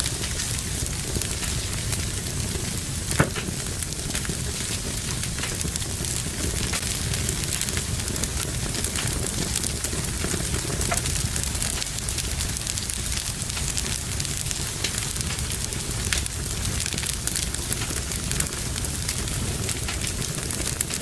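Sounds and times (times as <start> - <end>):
rush of flame: 0.0 - 21.0
wood fire crackling: 0.0 - 21.0.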